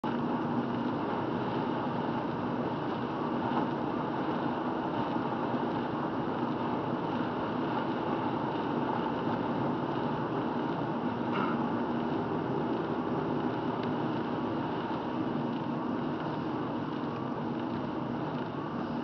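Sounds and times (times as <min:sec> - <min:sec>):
car tyre and engine noise: 0:00.0 - 0:19.0
faint steady hum: 0:00.0 - 0:19.0.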